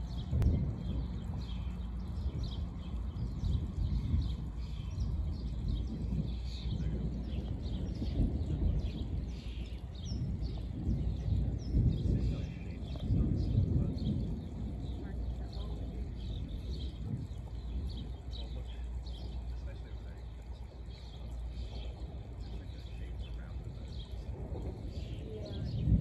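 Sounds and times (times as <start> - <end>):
birds chirping: 0.0 - 26.0
wind gusting on microphone: 0.0 - 26.0.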